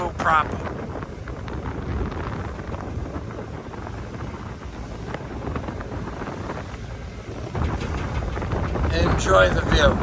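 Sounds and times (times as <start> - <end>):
ferry engine rumble: 0.0 - 10.0
wind buffeting microphone: 0.0 - 10.0.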